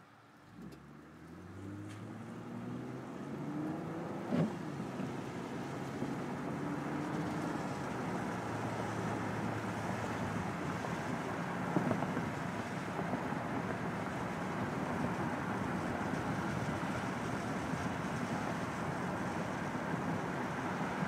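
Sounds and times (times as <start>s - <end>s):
tyre and road noise: 0.1s - 21.0s
car engine accelerating: 0.4s - 21.0s.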